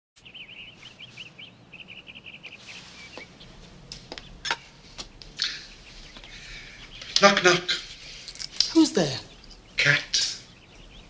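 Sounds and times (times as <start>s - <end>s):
bird chirping: 0.2s - 11.0s.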